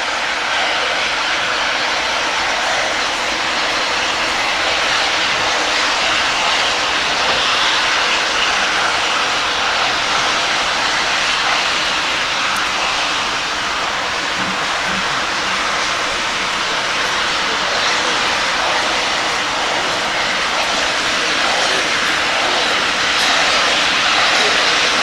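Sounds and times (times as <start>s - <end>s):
steam hissing from locomotive: 0.0s - 25.0s.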